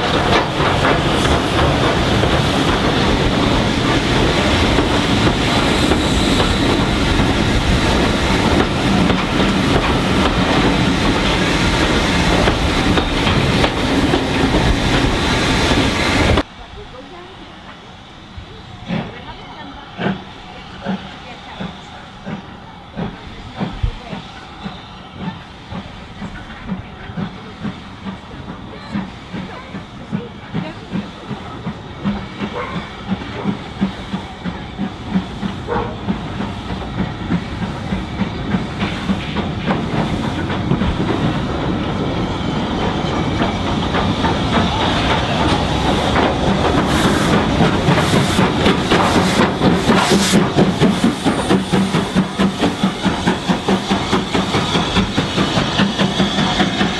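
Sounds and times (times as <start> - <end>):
steam hiss: 0.0 - 56.9
steam locomotive exhaust beats: 0.0 - 56.9.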